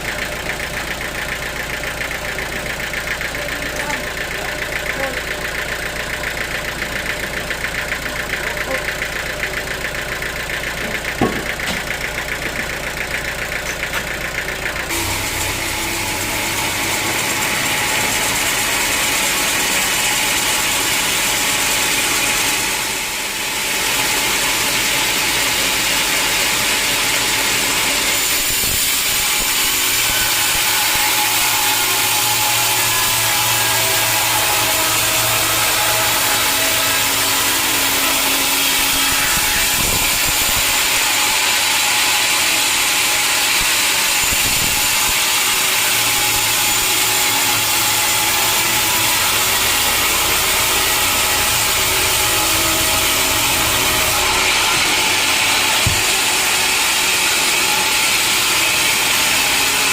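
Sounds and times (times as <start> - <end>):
hissy machine noise: 0.0 - 59.9
pulsing sawmill engine: 0.0 - 59.9.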